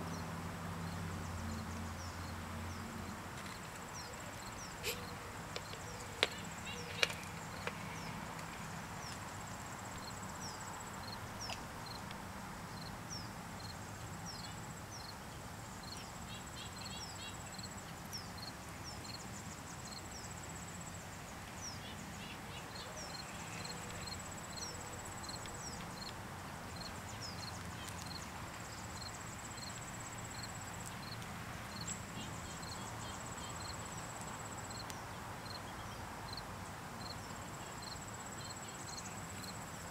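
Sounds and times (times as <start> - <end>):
small birds chirping: 0.0 - 36.4.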